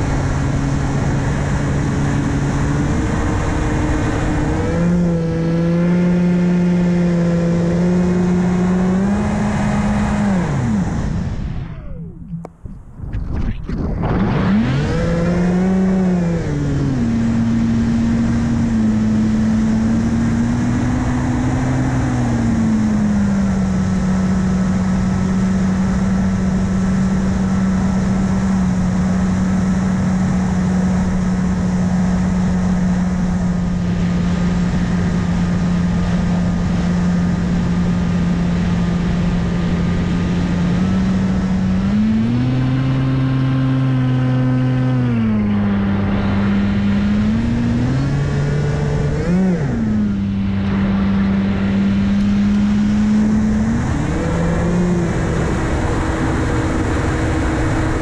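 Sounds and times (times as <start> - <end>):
electric motor and propeller drone: 0.0 - 58.0
wind noise on microphone: 0.0 - 58.0.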